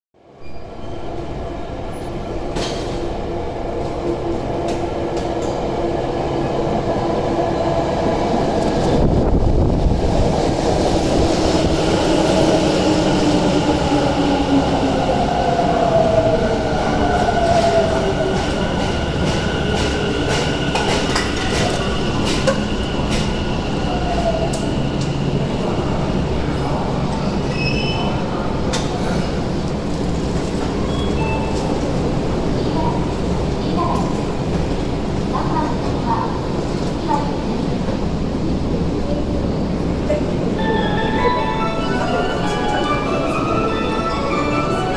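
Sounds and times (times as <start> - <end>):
train wheels rumbling on rails: 1.6 - 44.9.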